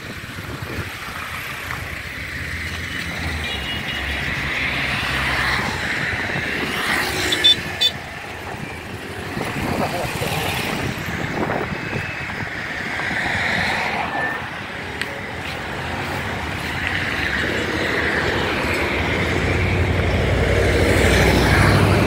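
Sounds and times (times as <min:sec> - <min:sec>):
cars passing on road: 0:00.0 - 0:22.0.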